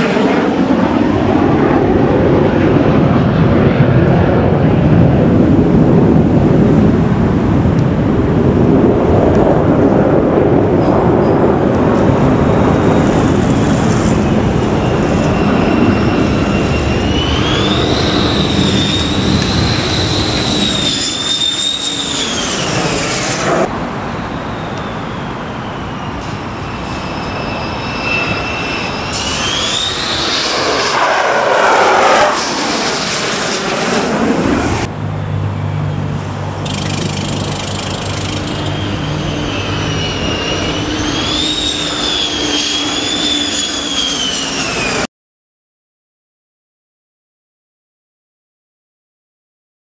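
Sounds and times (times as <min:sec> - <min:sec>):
high jet engine whine: 0:00.0 - 0:45.1
jet engines roaring: 0:00.0 - 0:45.1.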